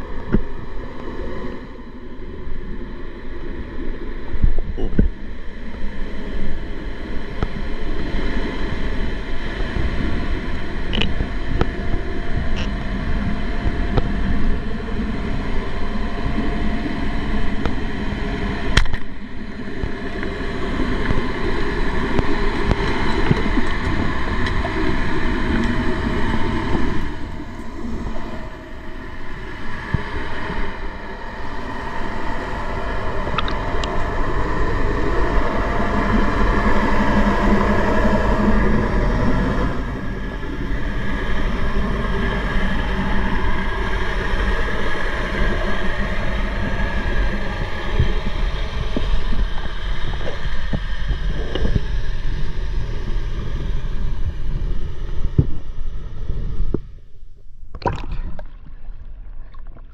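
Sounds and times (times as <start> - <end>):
mechanical rumble with hum: 0.0 - 59.9.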